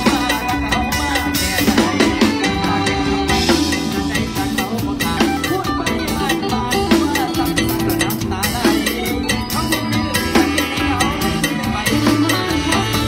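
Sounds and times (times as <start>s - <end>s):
drum kit beat: 0.0s - 13.0s
live band music: 0.0s - 13.0s.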